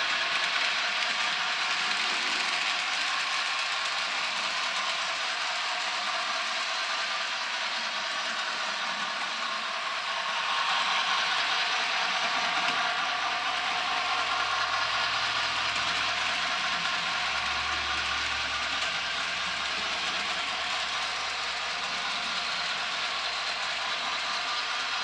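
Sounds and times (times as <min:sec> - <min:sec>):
model train whirring and rattling: 0:00.0 - 0:25.0.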